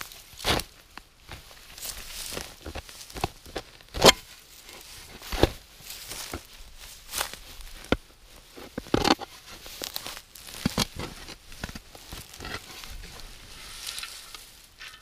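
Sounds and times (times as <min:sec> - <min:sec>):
shovel digging into soil: 0:00.0 - 0:05.6, 0:07.2 - 0:15.0.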